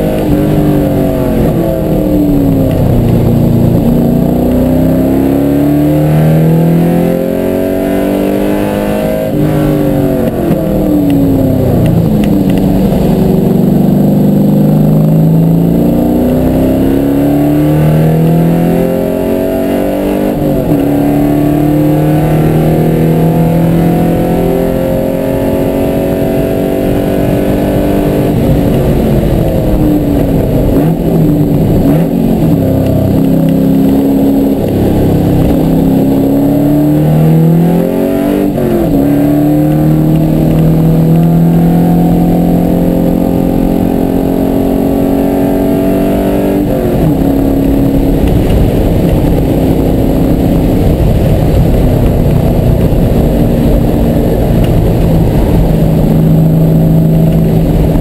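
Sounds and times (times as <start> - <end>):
car engine on race track: 0.0 - 58.0.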